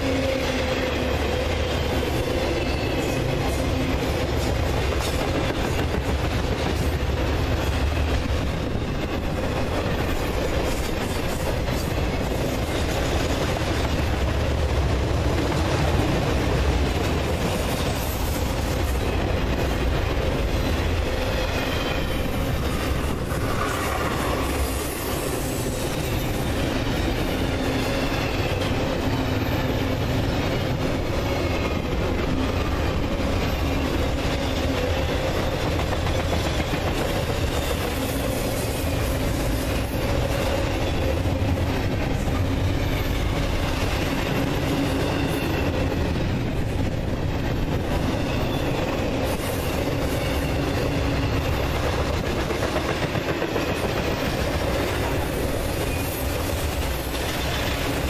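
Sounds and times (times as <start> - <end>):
steel wheels rumbling on rails: 0.0 - 58.0.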